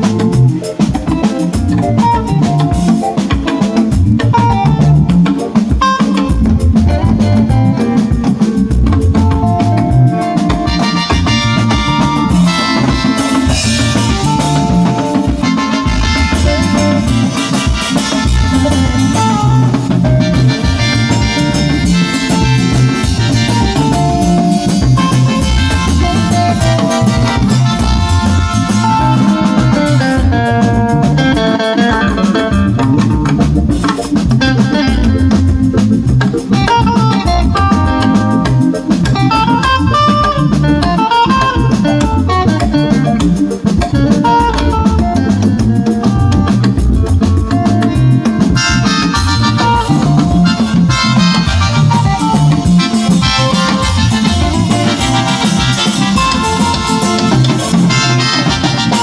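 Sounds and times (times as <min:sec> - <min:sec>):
drum kit beat: 0:00.0 - 0:59.0
melodic guitar lines: 0:00.0 - 0:59.0.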